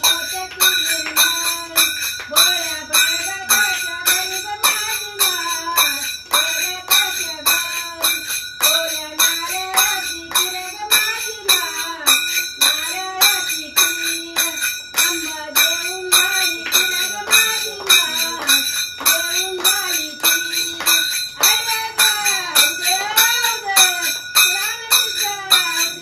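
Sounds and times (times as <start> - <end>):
ringing metal percussion: 0.0 - 26.0
woman singing devotional song: 0.0 - 26.0.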